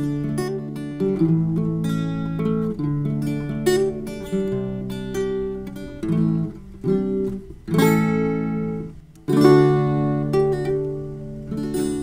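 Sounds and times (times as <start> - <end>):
guitar chords strummed: 0.0 - 12.0.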